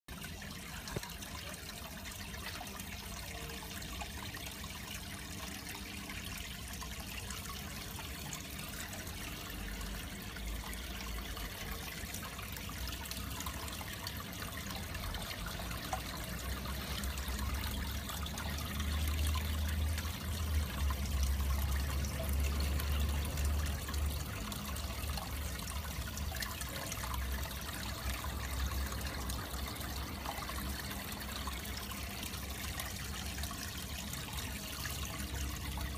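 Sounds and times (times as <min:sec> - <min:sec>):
aquarium water trickling: 0:00.1 - 0:35.9.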